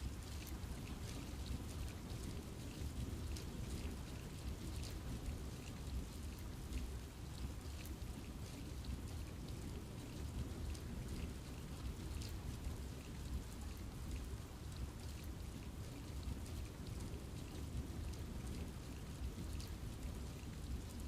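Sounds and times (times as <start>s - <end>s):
rain falling on foliage: 0.0s - 21.0s.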